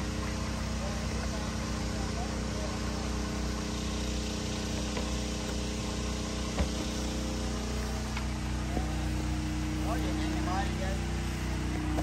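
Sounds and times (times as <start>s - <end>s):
small motor humming: 0.0s - 12.0s.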